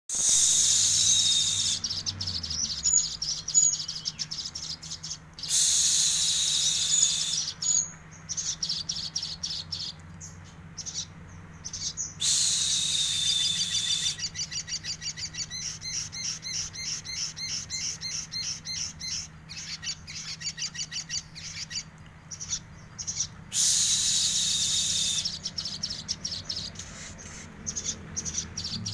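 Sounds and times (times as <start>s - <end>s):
rapid sharp bird chips: 0.1s - 11.1s, 11.7s - 28.9s
bird trills: 0.1s - 28.9s.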